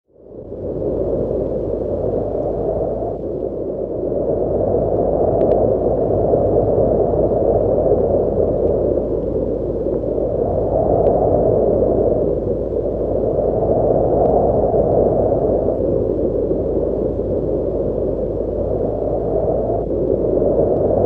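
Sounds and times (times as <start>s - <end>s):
strong wind blowing: 0.1s - 21.0s.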